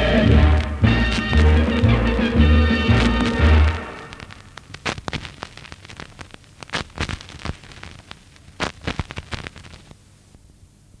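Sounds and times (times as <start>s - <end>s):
record surface crackle and pops: 0.0s - 11.0s.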